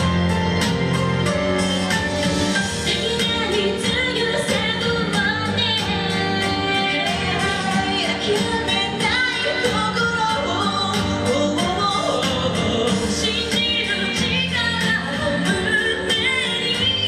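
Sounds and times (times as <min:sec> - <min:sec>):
woman singing: 0:02.5 - 0:17.0.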